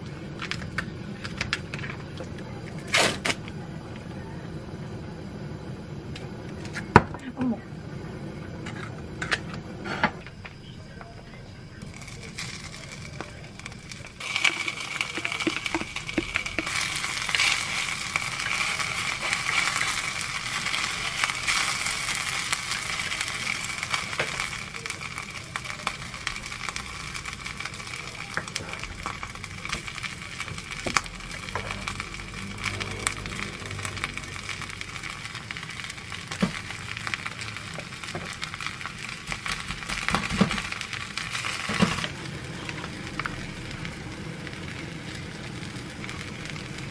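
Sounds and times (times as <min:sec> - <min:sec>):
rice sizzling and crackling in pot: 0:00.0 - 0:03.5, 0:11.8 - 0:46.9.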